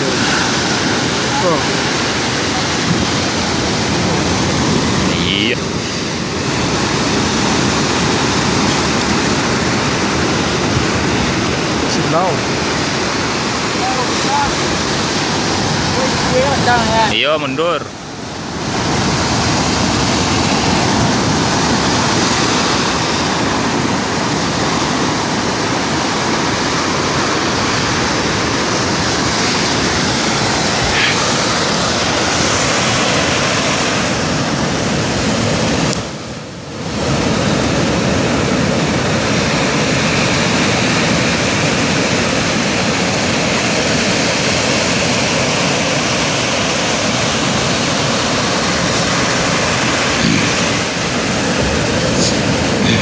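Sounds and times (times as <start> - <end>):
ocean surf breaking: 0.0 - 53.0.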